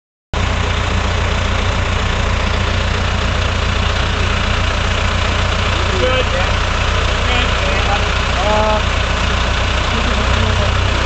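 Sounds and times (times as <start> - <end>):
engine idling: 0.4 - 11.0.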